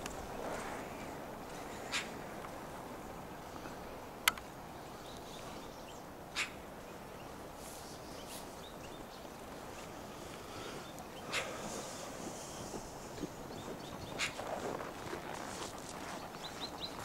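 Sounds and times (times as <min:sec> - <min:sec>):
steady low hiss: 0:00.0 - 0:17.0
small birds chirping: 0:01.5 - 0:17.0.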